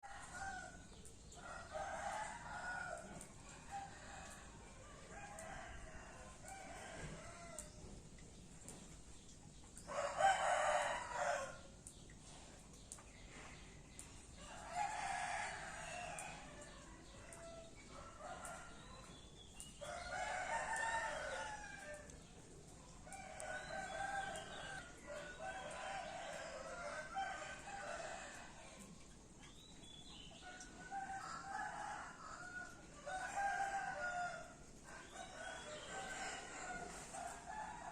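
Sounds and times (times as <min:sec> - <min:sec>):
faint roosters crowing: 0:00.0 - 0:08.8, 0:09.8 - 0:12.5, 0:13.1 - 0:37.9.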